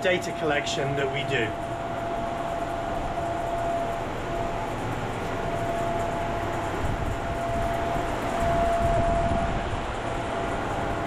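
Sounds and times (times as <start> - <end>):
fans whirring: 0.0 - 11.0
mid-pitched hum: 0.0 - 11.0.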